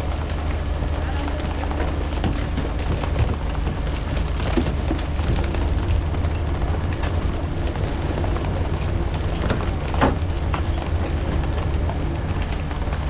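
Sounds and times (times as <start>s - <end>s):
boat engine running: 0.0s - 13.0s
small knocks: 0.2s - 13.0s.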